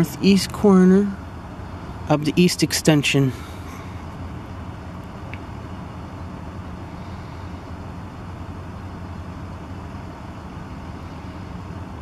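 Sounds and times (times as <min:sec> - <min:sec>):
distant road traffic rumble: 0:00.0 - 0:12.0.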